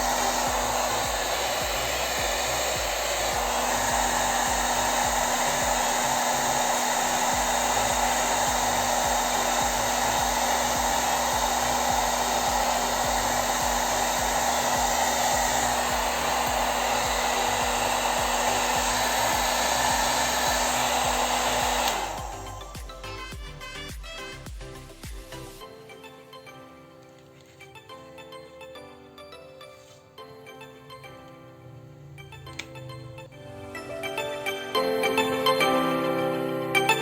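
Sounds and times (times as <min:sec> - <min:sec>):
hair dryer blowing: 0:00.0 - 0:25.7, 0:32.3 - 0:37.0
quiet music: 0:00.0 - 0:37.0.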